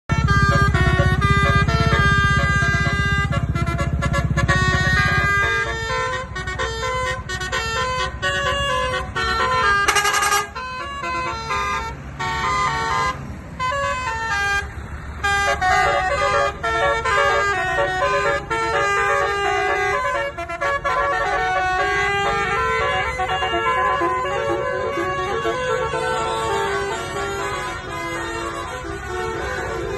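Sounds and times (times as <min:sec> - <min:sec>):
multi-tone horn playing a tune: 0:00.1 - 0:29.9.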